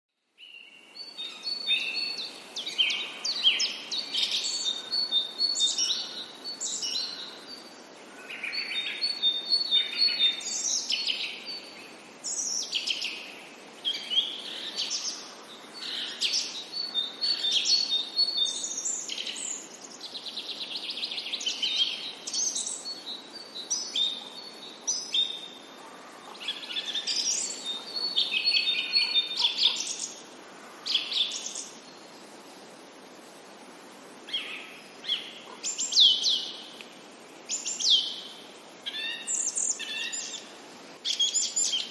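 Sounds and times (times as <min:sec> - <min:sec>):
low background hiss: 0:00.2 - 0:41.9
songbirds chirping and whistling: 0:00.4 - 0:32.7, 0:34.3 - 0:36.9, 0:37.5 - 0:41.9.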